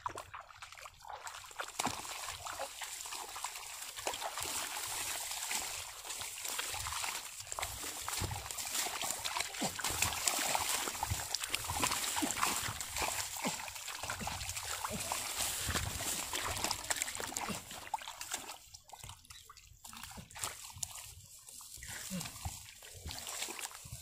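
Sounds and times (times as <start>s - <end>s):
hands splashing in muddy water: 0.0s - 24.0s
rustling through stubble: 1.9s - 18.6s, 20.0s - 24.0s.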